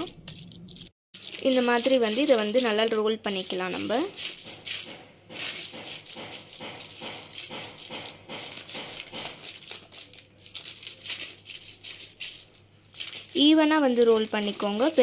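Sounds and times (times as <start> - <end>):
paper crinkling and rustling: 0.3 - 15.0.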